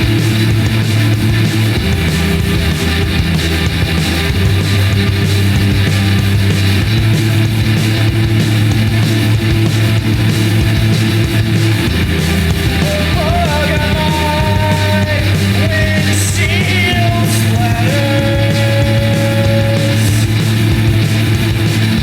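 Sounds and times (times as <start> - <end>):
loud rock music with guitars: 0.0 - 22.0.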